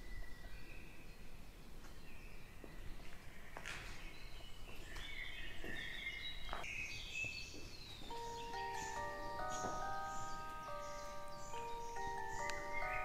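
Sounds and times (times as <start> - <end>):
birds chirping and warbling: 0.0 - 13.0.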